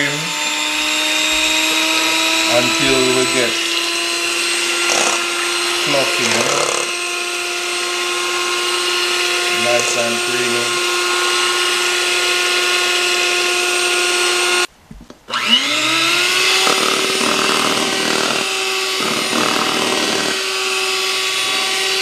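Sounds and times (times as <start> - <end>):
electric mixer whining: 0.0 - 14.7, 15.3 - 22.0.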